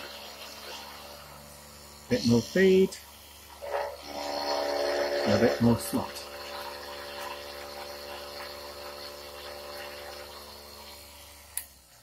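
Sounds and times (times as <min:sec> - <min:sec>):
drill cutting metal hiss: 0:00.0 - 0:12.0
milling machine motor whine: 0:00.0 - 0:12.0.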